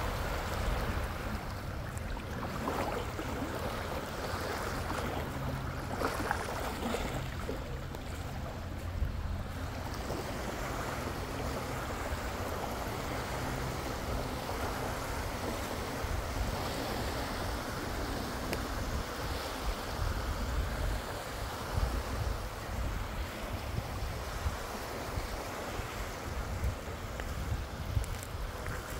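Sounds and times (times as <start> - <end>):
waves washing onto sand: 0.0 - 28.9
wind on microphone: 0.0 - 28.9.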